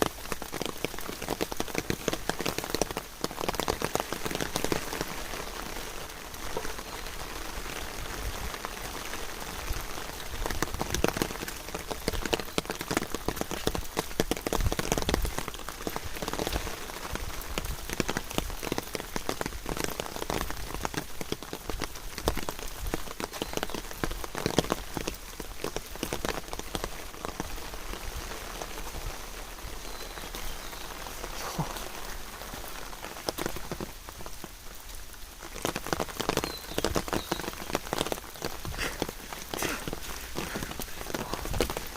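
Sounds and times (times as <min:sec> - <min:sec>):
close raindrops tapping: 0:00.0 - 0:41.9
rain falling: 0:00.0 - 0:41.9.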